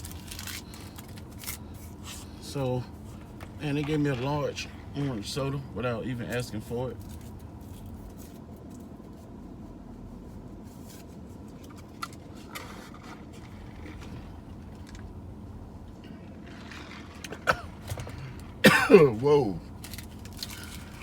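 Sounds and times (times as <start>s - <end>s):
car engine low hum: 0.0s - 21.0s.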